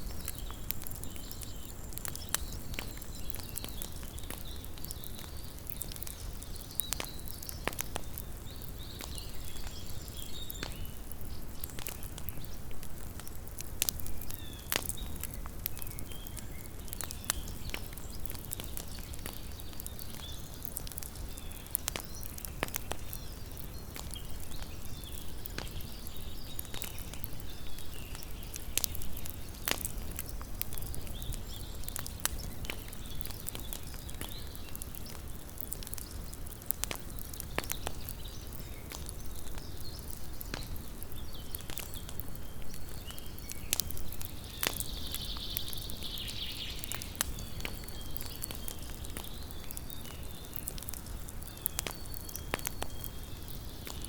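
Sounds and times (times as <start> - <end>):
campfire low rumble: 0.0 - 54.0
campfire pops and snaps: 0.0 - 54.0.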